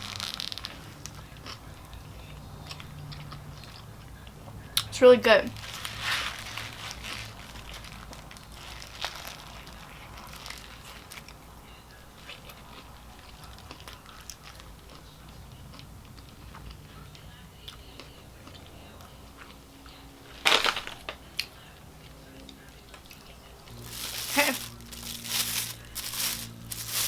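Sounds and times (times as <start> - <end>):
chewing crispy food: 0.0 - 4.9, 5.5 - 27.0.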